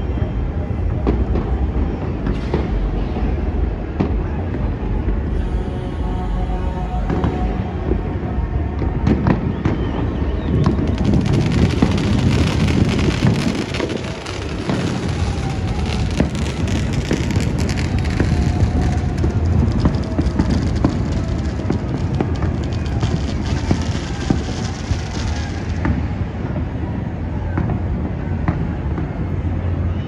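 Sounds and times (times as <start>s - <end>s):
fireworks booms and crackles: 0.0s - 29.9s.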